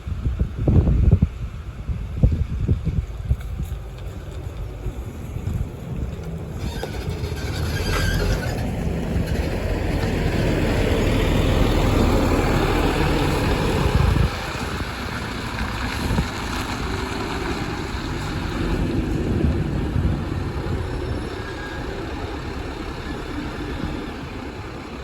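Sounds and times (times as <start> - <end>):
bus diesel engine rumbling: 0.0 - 25.0.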